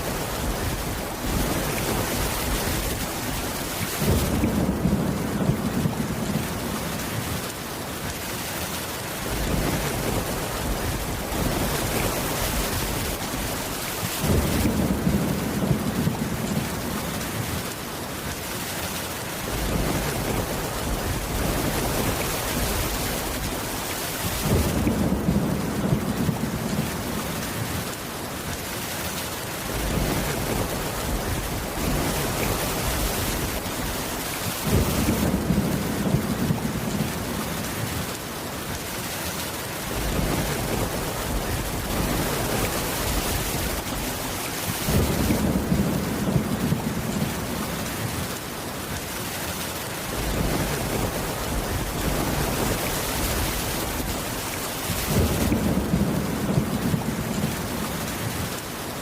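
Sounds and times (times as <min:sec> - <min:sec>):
thunder rumbling: 0:00.0 - 0:07.5, 0:09.2 - 0:17.7, 0:19.5 - 0:27.8, 0:29.7 - 0:38.2, 0:39.9 - 0:48.3, 0:50.1 - 0:58.5
heavy rain: 0:00.0 - 0:59.0.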